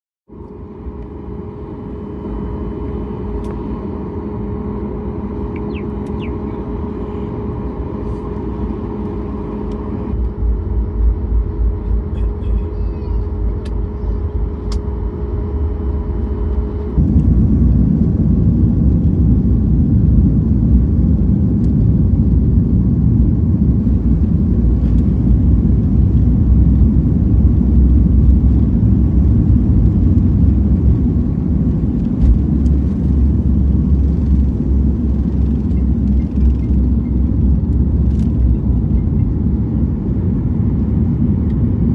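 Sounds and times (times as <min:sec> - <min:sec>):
jet engines on takeoff: 0:00.3 - 0:41.9.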